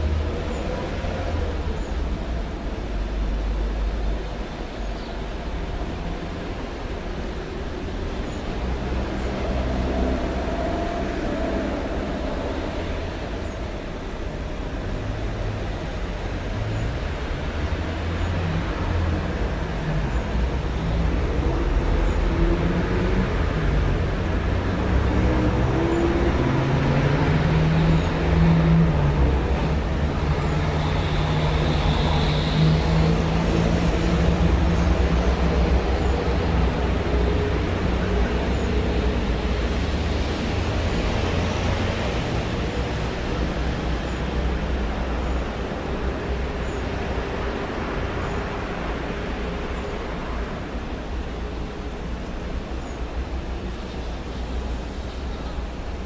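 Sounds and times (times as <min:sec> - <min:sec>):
passing vehicles: 0:00.0 - 0:56.0
road traffic rumble: 0:00.0 - 0:56.0.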